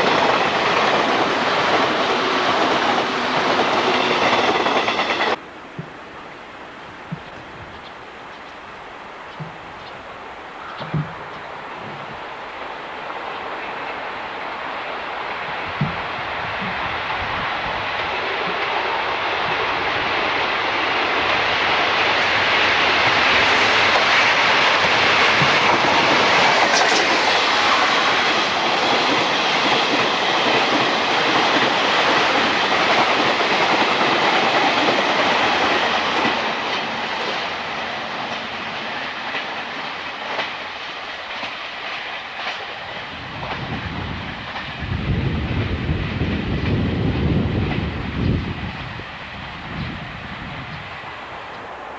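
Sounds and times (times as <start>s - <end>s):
train wheels clacking: 0.0s - 6.2s, 9.3s - 50.0s.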